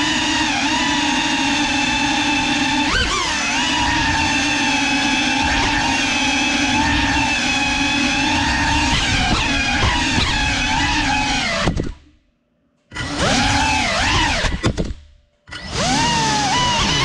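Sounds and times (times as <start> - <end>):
drone motors whining: 0.0 - 12.2, 12.9 - 17.0.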